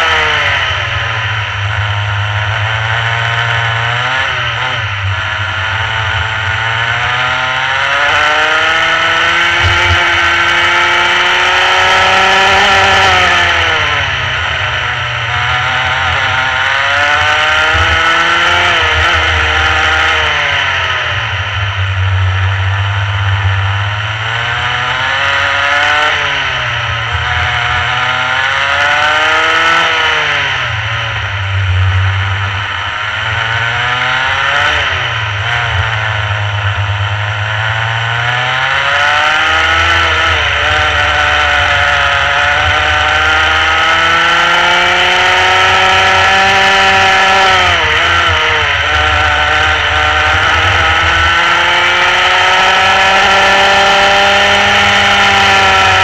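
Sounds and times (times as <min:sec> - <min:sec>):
kart two-stroke engine revving: 0:00.0 - 0:56.0.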